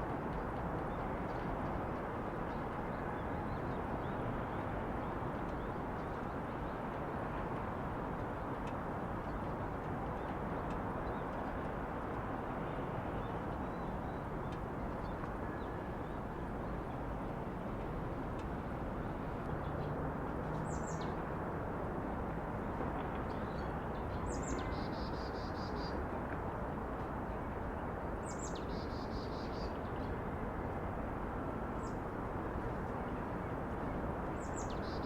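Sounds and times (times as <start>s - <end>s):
distant traffic hum: 0.0s - 35.0s.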